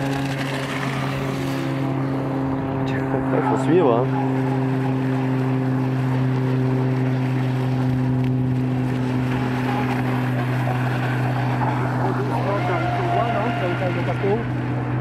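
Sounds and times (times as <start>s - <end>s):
model boat motor droning: 0.0s - 15.0s.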